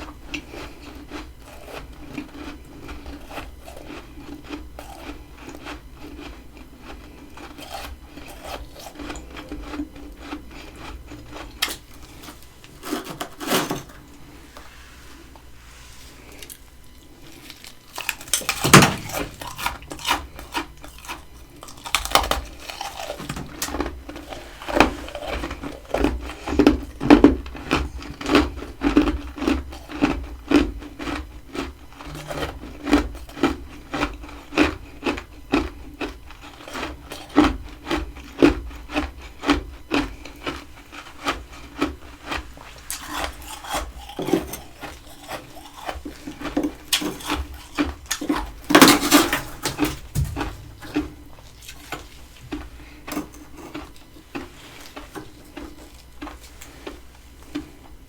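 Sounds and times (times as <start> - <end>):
crunchy chewing of frost: 0.0 - 58.0.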